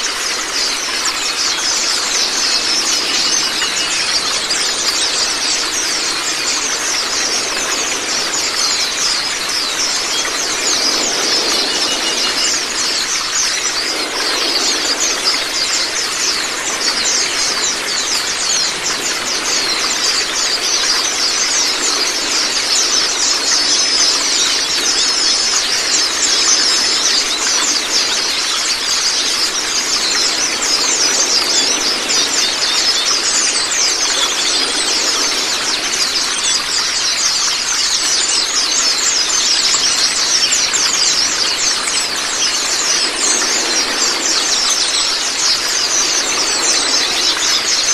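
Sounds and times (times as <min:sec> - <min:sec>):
birds chattering and singing: 0:00.0 - 0:47.9
running water: 0:00.0 - 0:47.9.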